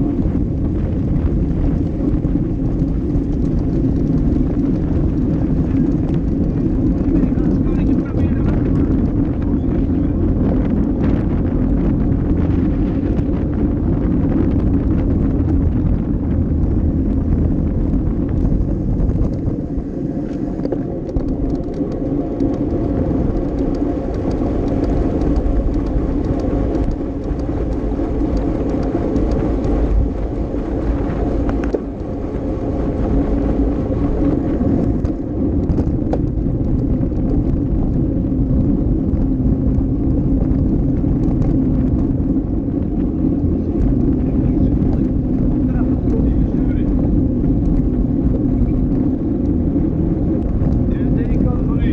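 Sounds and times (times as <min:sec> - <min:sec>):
bike tyres rumbling on road: 0:00.0 - 0:51.9
wind rushing over microphone: 0:00.0 - 0:51.9.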